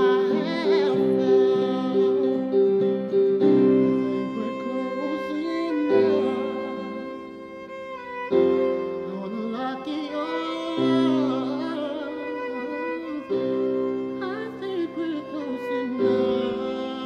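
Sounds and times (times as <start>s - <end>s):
violin melody with vibrato: 0.0s - 17.0s.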